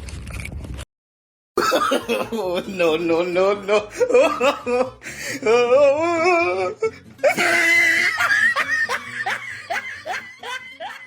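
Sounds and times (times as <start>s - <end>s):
background music: 1.6s - 11.0s
person laughing hard: 1.6s - 11.0s.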